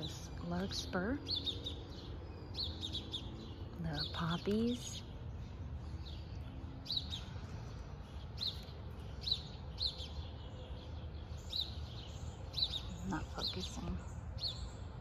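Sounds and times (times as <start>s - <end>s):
low background rumble: 0.0s - 15.0s
small bird chirping: 0.0s - 15.0s.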